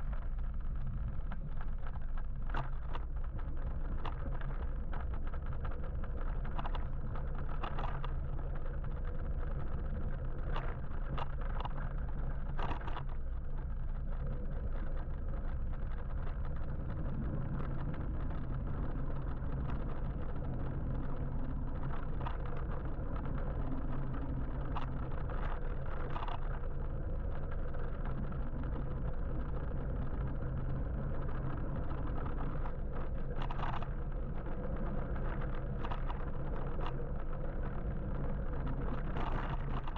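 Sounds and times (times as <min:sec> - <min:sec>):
road and wind rumble: 0:00.0 - 0:39.9.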